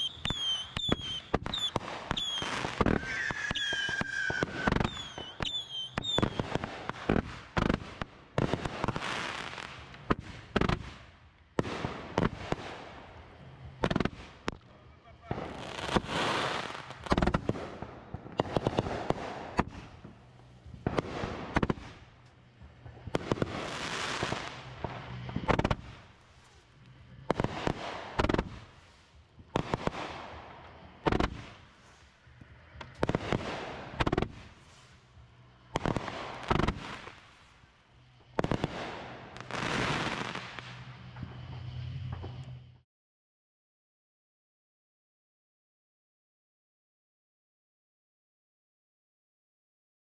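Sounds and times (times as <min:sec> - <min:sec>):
fireworks bangs: 0:00.0 - 0:42.6
hiss and crackle of sparks: 0:00.0 - 0:42.7.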